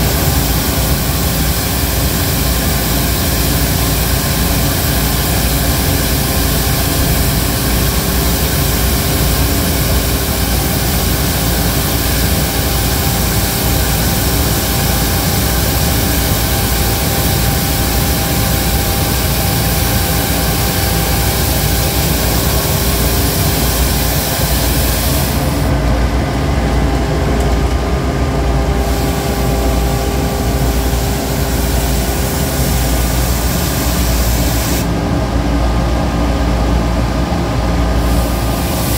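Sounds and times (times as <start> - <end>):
loud hiss: 0.0 - 25.8, 28.7 - 35.0, 37.9 - 38.9.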